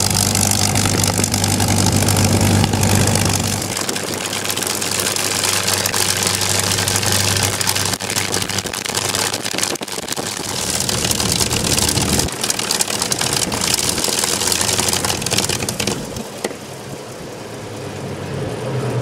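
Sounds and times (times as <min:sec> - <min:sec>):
piston aircraft engine running: 0:00.0 - 0:19.0.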